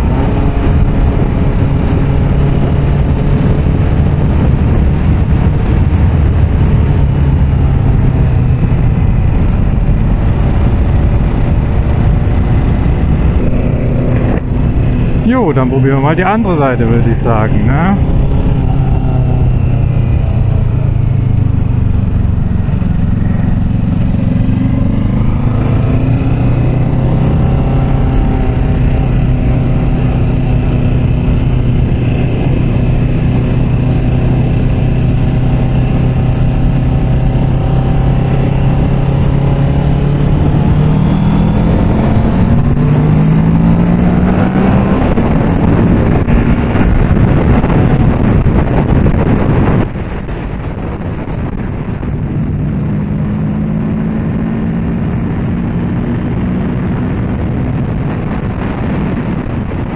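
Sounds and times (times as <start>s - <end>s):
motorcycle engine accelerating: 0.0s - 59.9s
rushing wind noise: 0.0s - 59.9s.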